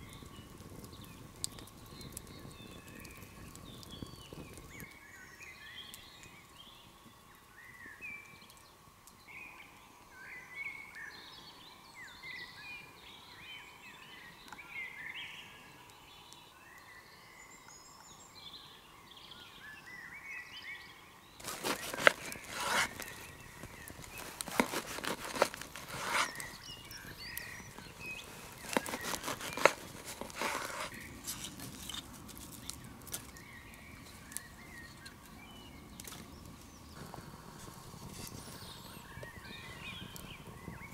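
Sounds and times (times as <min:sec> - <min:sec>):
campfire wood crackling: 0:00.0 - 0:16.9, 0:21.3 - 0:40.9
songbirds chirping and singing: 0:00.0 - 0:32.0, 0:32.6 - 0:37.0, 0:37.9 - 0:40.9.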